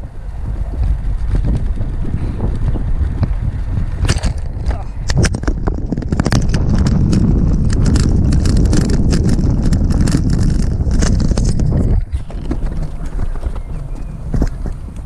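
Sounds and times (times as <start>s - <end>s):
low rumble from wheels: 0.0s - 15.0s
scooter rattling over bumpy path: 0.0s - 15.0s
wind on microphone: 0.0s - 15.0s.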